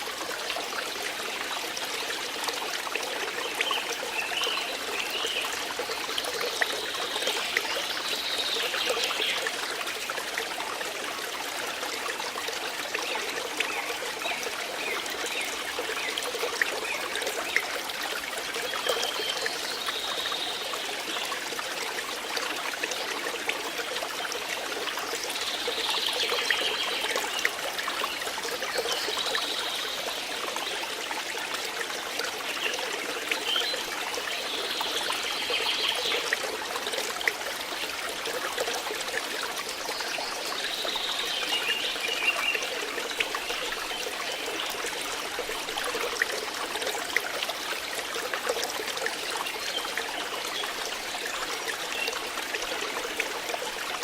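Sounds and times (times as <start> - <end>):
water trickling and babbling: 0.0 - 54.0.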